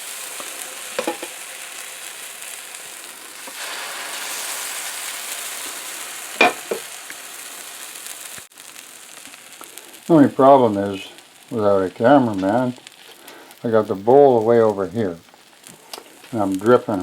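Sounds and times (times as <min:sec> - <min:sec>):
batter sizzling in a pan: 0:00.0 - 0:17.0.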